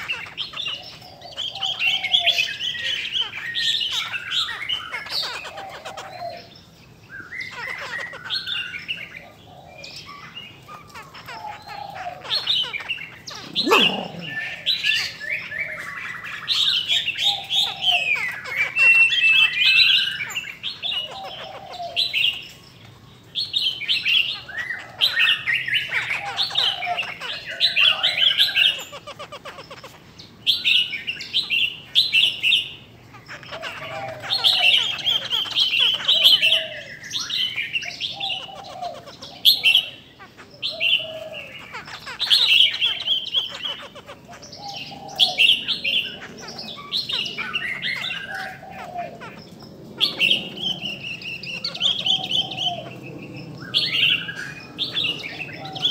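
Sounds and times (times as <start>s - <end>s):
birds whistling and singing: 0.0s - 55.9s.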